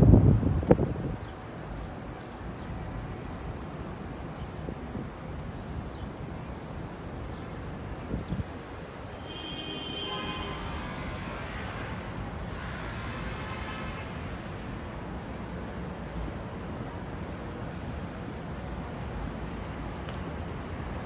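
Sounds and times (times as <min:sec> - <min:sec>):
passing traffic rumble: 0:00.0 - 0:21.0.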